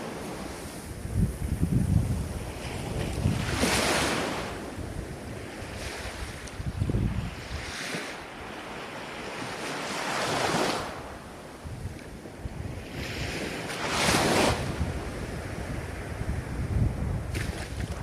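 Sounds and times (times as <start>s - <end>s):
ocean waves breaking: 0.0s - 18.0s
wind rumbling on microphone: 0.0s - 18.0s.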